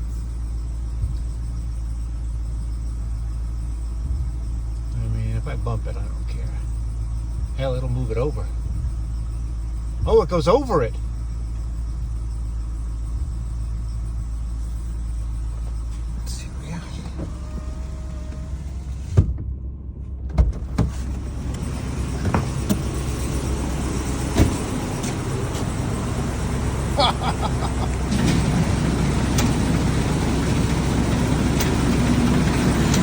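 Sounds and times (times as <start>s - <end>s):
pickup truck engine running: 0.0s - 33.0s.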